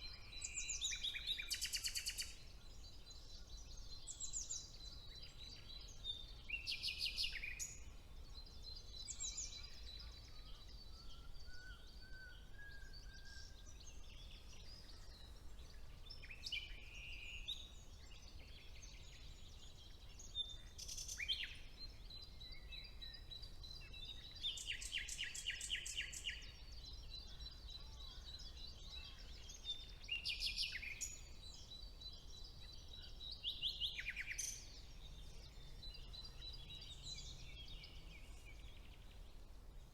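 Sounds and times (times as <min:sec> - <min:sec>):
songbirds singing trilled notes: 0:00.0 - 0:39.9.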